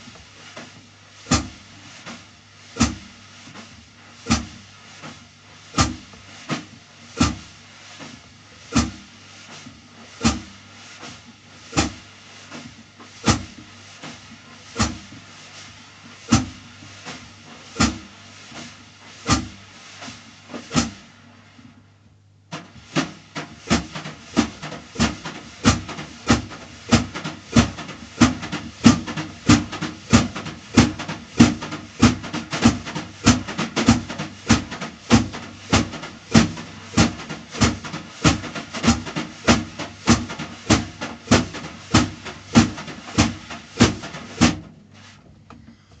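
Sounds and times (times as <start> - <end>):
snare drum played with brushes: 0.0 - 45.4.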